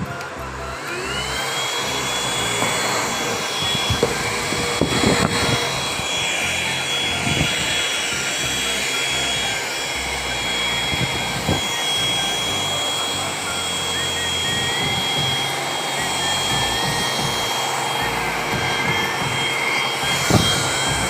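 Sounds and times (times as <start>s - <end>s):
vacuum cleaner motor whine: 0.0s - 21.0s.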